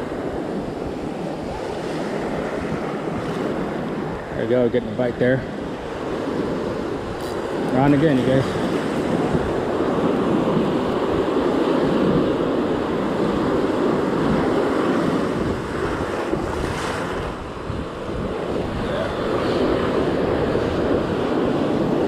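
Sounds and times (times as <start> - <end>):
waves washing: 0.0 - 22.0
wind buffeting microphone: 0.0 - 22.0.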